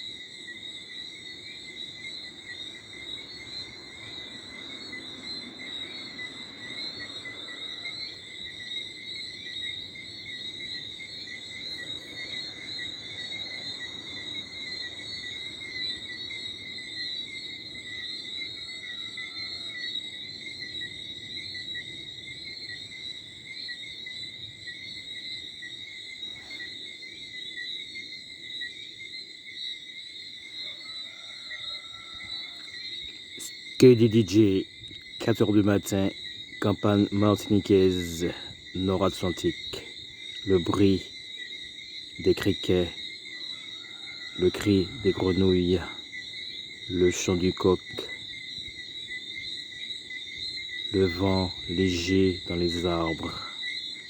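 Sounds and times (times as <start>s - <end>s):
crickets and frogs chorus: 0.0s - 54.0s.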